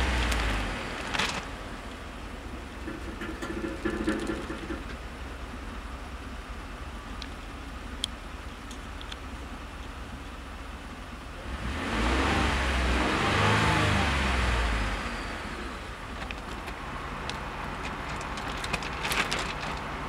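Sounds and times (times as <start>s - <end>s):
truck engine idling and revving: 0.0s - 20.0s.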